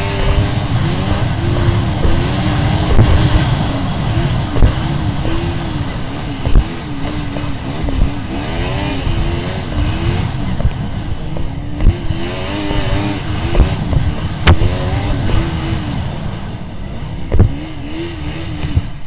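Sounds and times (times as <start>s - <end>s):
short low thumps: 0.0s - 16.4s, 17.2s - 17.7s
snowmobile engine revving: 0.0s - 19.0s.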